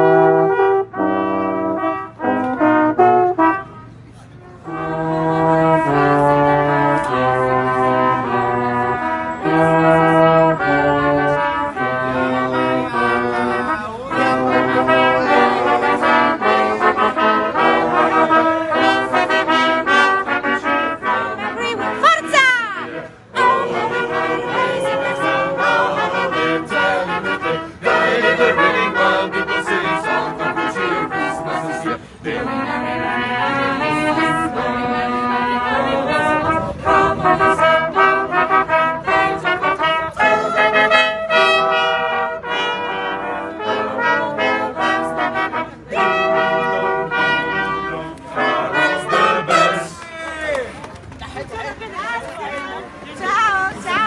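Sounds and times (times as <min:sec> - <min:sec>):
christmas brass music: 0:00.0 - 0:50.6, 0:52.8 - 0:54.0.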